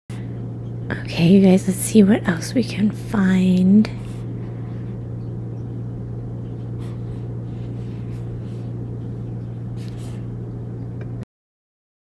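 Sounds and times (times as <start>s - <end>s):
low room tone hum: 0.1s - 11.2s.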